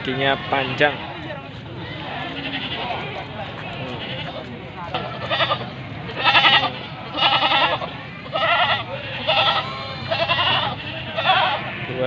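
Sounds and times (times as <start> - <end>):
goats bleating: 0.0 - 12.0.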